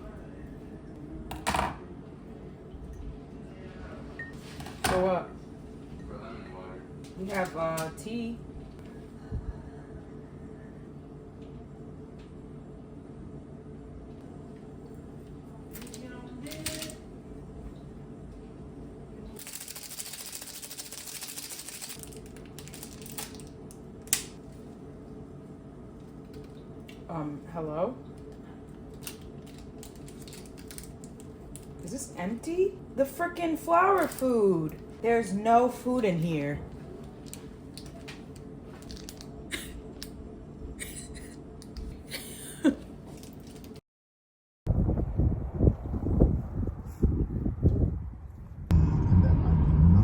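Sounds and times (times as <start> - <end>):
low steady hum: 0.0 - 43.8.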